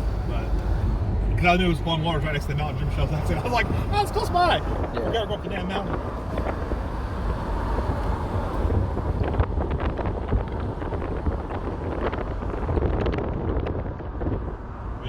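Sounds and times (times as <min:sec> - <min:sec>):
car engine and tyre rumble: 0:00.0 - 0:15.0
wind noise: 0:00.0 - 0:15.0.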